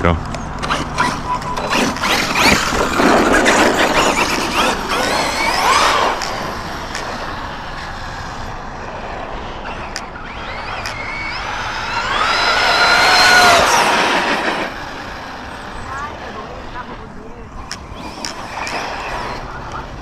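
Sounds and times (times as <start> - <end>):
electric motor whining: 0.3 - 20.0.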